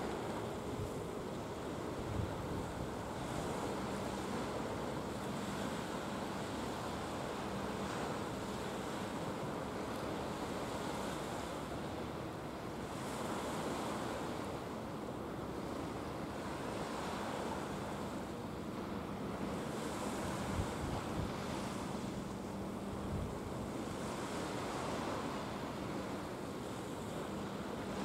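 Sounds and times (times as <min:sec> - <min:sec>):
faint boat engine hum: 0:00.0 - 0:28.0
waves washing: 0:00.0 - 0:28.0.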